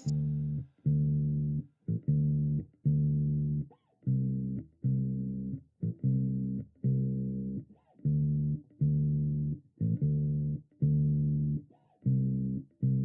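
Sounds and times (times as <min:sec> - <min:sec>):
bass guitar riff: 0:00.0 - 0:13.0.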